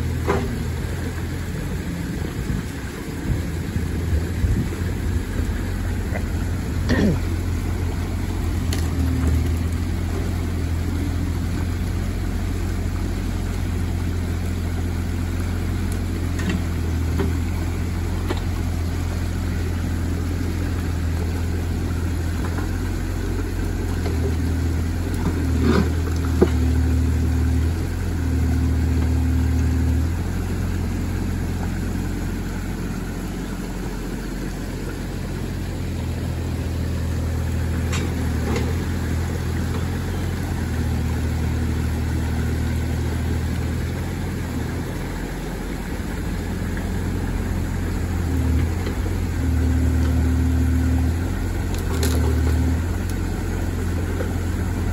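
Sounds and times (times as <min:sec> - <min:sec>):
excavator diesel engine running: 0:00.0 - 0:54.9
water rushing through spillway: 0:00.0 - 0:54.9.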